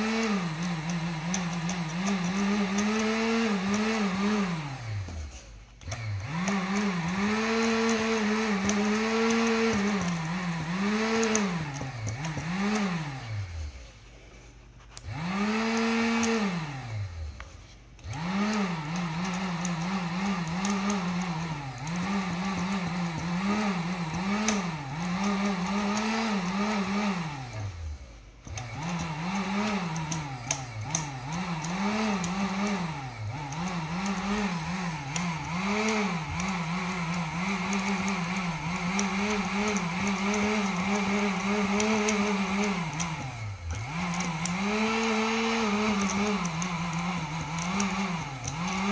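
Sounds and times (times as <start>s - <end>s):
heat gun fan motor humming: 0.0s - 48.9s.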